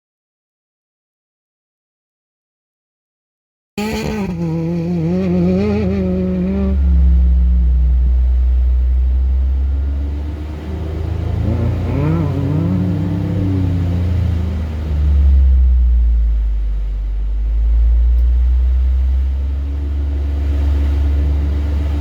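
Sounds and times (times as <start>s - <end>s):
race vehicle engine revving: 3.8s - 22.0s.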